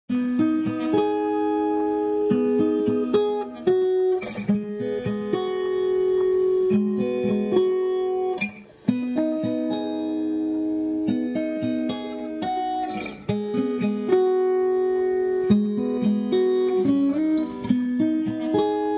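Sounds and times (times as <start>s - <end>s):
plucked acoustic guitar melody: 0.1s - 18.9s.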